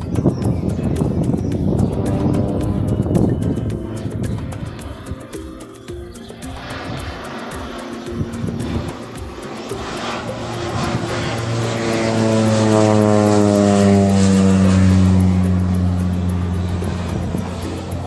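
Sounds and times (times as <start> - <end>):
propeller plane flying low past: 0.0 - 18.0.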